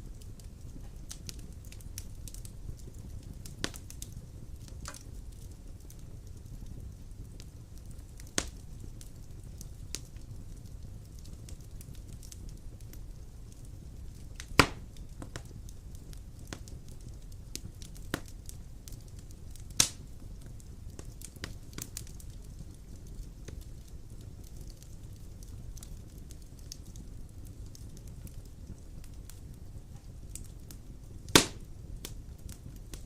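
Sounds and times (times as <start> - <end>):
fire crackling and popping: 0.0 - 33.0
fire rumbling: 0.0 - 33.0.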